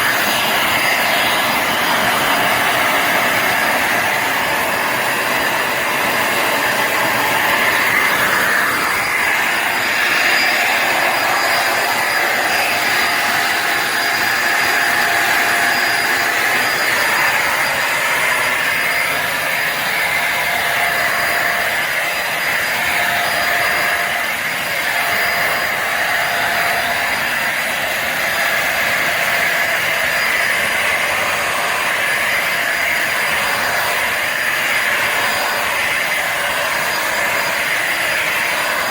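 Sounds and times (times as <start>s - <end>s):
vacuum motor drone with whine: 0.0s - 38.9s.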